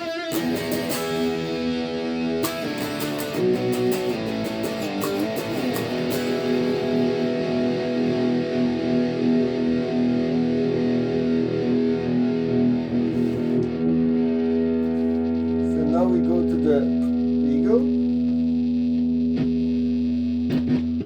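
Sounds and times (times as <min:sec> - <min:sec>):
overdriven electric guitar: 0:00.0 - 0:21.0.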